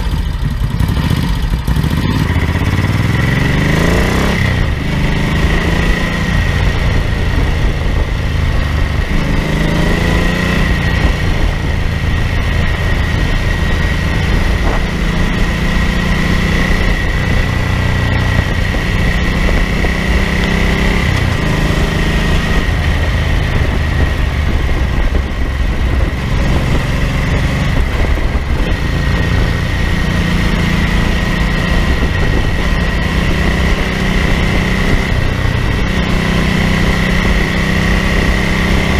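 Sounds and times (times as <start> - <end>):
motorcycle engine revving: 0.0 - 38.9
wind rumble on microphone: 0.0 - 38.9
steady high whine: 3.0 - 38.9.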